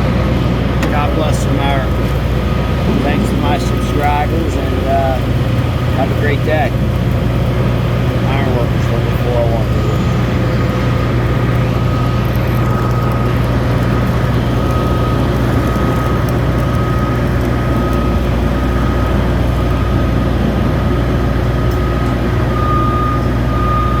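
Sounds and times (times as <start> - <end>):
low machinery drone: 0.0 - 24.0.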